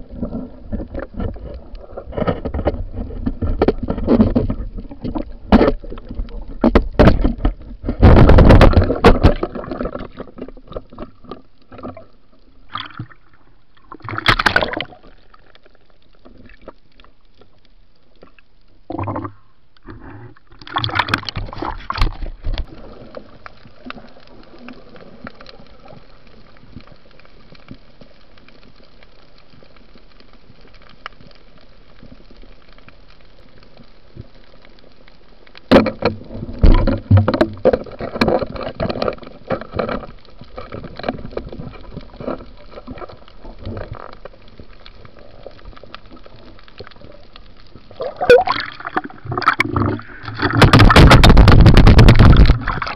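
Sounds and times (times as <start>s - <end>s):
water splashing against camera: 0.0s - 52.9s.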